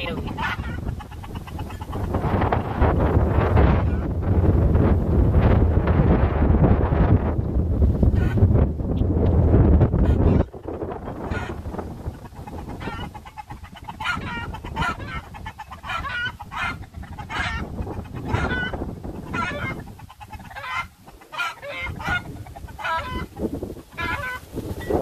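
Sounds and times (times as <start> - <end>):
chickens clucking and squawking: 0.0 - 25.0
wind rumbling on microphone: 0.0 - 25.0.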